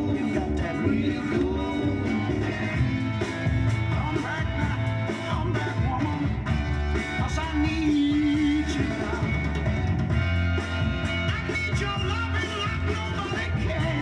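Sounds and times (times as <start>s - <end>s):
song playing from vinyl record: 0.0s - 14.0s.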